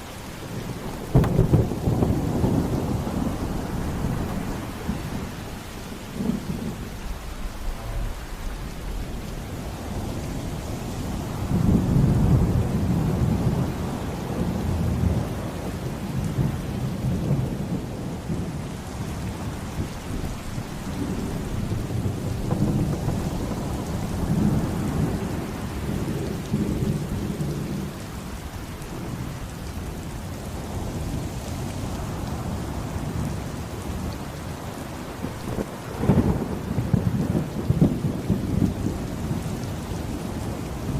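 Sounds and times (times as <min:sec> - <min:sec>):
rolling thunder: 0:00.0 - 0:40.9
steady rain: 0:00.0 - 0:40.9.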